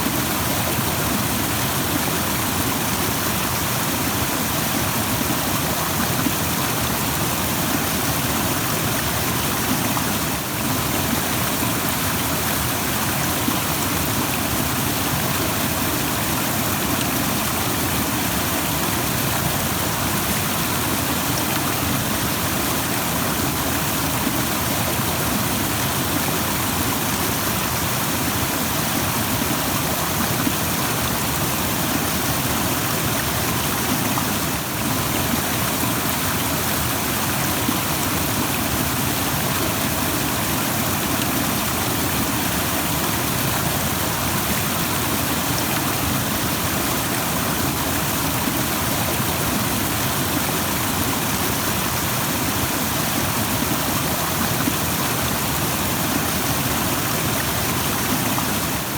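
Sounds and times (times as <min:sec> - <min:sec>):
water flowing fast over rocks: 0:00.0 - 0:58.9.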